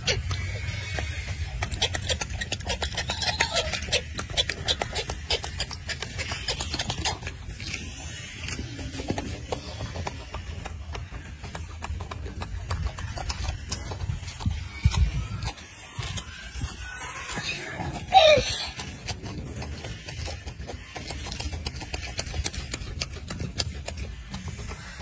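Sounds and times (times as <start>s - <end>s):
monkey chewing wet smacking: 0.0s - 25.0s.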